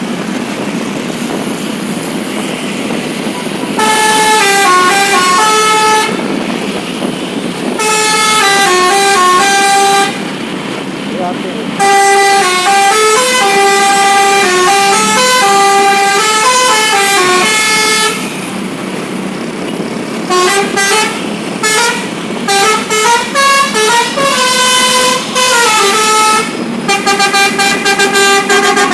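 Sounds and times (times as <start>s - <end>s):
multi-tone bus horn melody: 2.3s - 10.4s, 11.7s - 18.4s, 20.2s - 28.9s.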